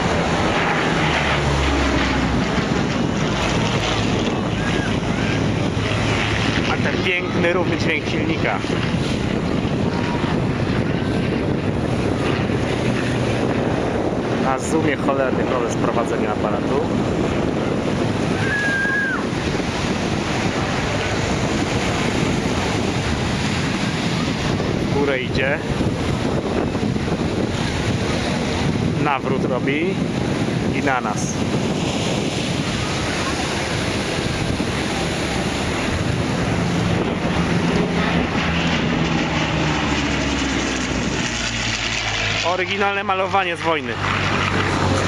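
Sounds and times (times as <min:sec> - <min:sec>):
propeller plane engine passing overhead: 0:00.0 - 0:45.0
wind buffeting microphone: 0:00.0 - 0:45.0.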